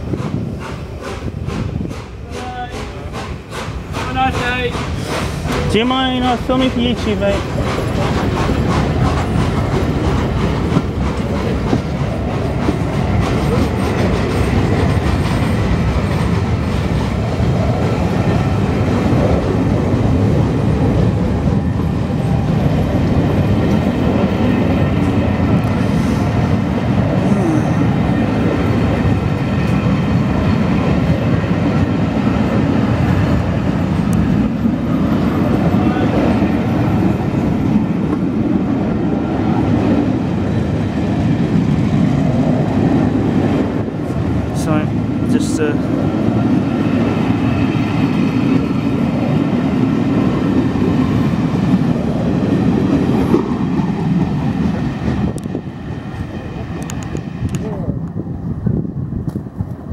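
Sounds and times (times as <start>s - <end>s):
low rumble of wheels on rails: 0.0s - 59.9s.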